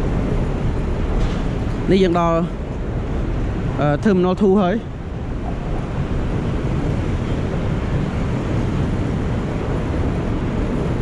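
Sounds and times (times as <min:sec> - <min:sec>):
road traffic: 0:00.0 - 0:11.0
wind buffeting microphone: 0:00.0 - 0:11.0.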